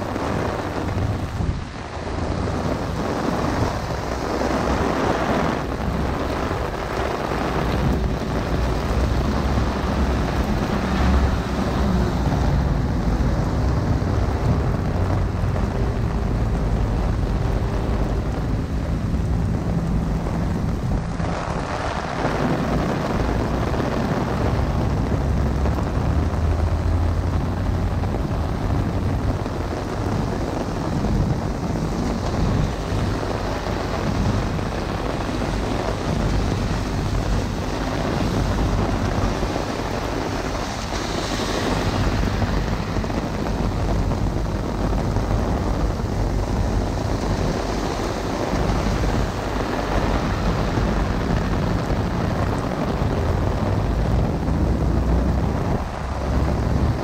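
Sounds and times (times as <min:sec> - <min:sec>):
low roll of thunder: 0:00.0 - 0:57.0
rain drumming on an umbrella: 0:00.0 - 0:57.0
rain hissing on wet street: 0:00.0 - 0:57.0
wind noise on microphone: 0:00.0 - 0:57.0.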